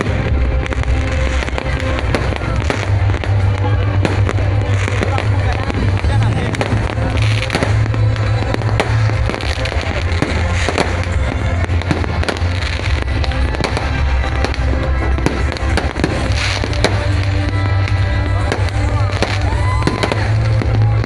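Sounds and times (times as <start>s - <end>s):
fireworks bangs and crackles: 0.0s - 21.0s
loud music with heavy bass: 0.0s - 21.0s.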